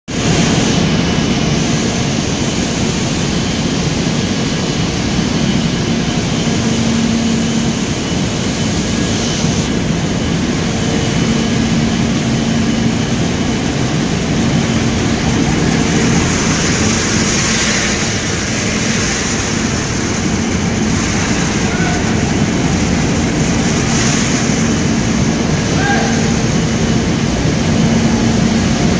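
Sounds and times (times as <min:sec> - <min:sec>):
industrial machinery din: 0:00.1 - 0:28.9.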